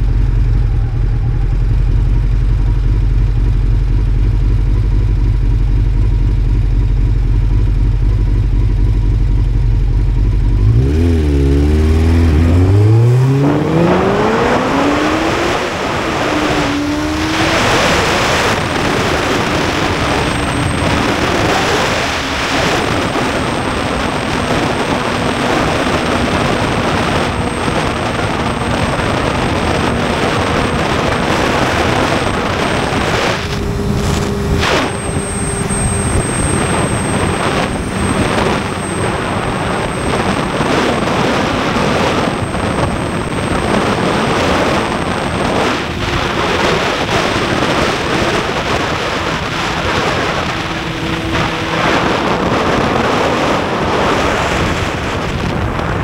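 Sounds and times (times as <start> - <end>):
motorcycle engine running: 0.0 - 56.0
wind over camera microphone: 10.4 - 56.0.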